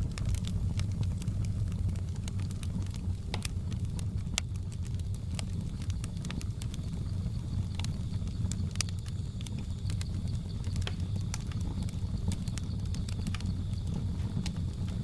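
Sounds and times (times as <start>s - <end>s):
fire popping and snapping: 0.0s - 15.0s
low rumble of burning: 0.0s - 15.0s
wood fire crackling: 0.0s - 15.0s.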